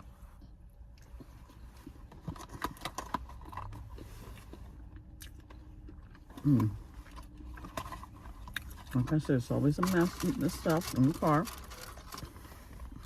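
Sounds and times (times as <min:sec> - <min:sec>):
chewing: 0:00.9 - 0:13.0.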